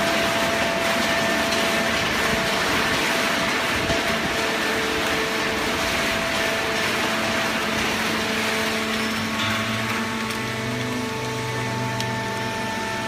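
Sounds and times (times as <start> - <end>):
baler machine hum: 0.0 - 13.0
deeper machine hum: 0.0 - 13.0.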